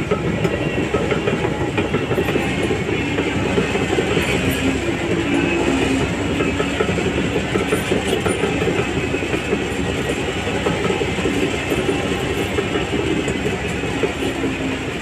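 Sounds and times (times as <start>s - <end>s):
bulldozer diesel engine: 0.0s - 15.0s
steel tracks clattering: 0.0s - 15.0s.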